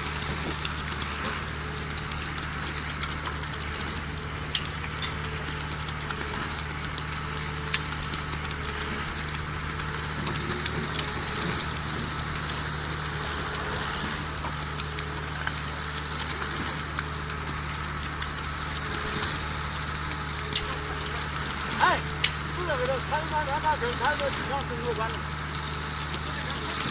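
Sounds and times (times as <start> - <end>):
concrete pump engine hum: 0.0 - 26.9.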